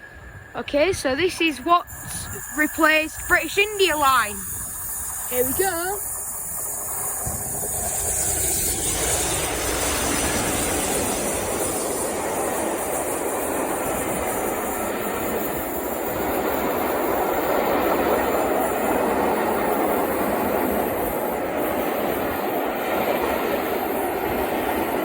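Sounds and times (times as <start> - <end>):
diesel locomotives passing: 0.0 - 25.0
wheels on rails: 0.0 - 25.0.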